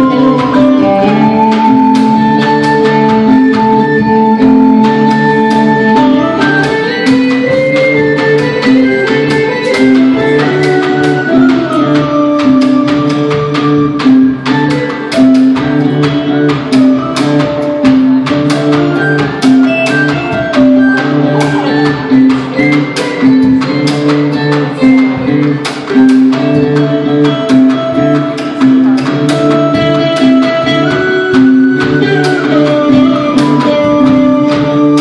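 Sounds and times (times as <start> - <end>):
low repeating riff: 0.0 - 35.0
plucked notes: 0.0 - 35.0.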